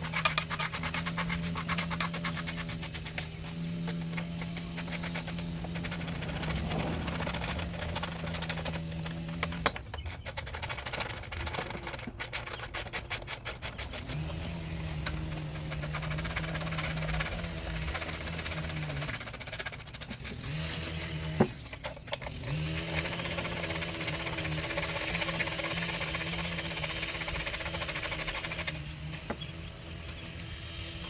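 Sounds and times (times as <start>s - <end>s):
rapid ticking: 0.0s - 14.2s, 14.9s - 21.3s, 22.2s - 28.8s
mechanical hum: 0.0s - 31.0s.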